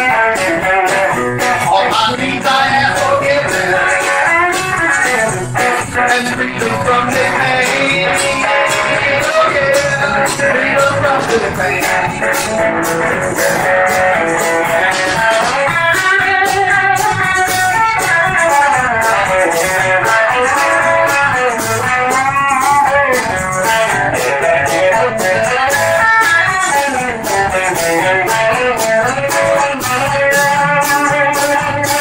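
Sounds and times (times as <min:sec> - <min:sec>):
live country band playing: 0:00.0 - 0:32.0.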